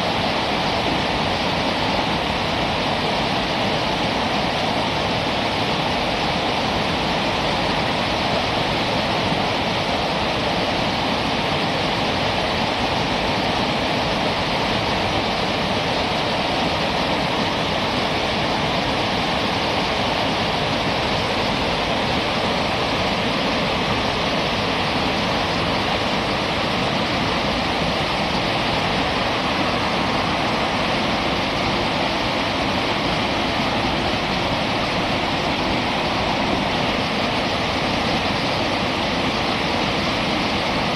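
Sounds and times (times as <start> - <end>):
river rapids rushing: 0.0 - 40.9.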